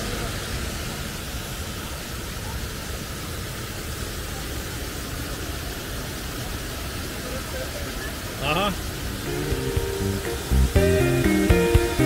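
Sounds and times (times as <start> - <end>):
stream cascade rushing: 0.0 - 12.0.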